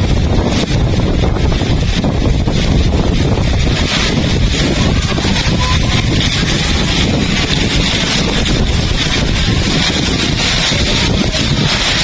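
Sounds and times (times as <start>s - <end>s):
heavy rain pouring: 0.0s - 12.0s
wind buffeting microphone: 0.0s - 12.0s.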